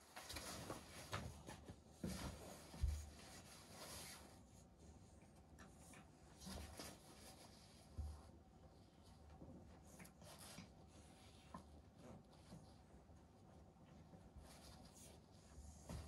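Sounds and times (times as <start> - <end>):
kittens scratching and rustling: 0.0 - 16.0.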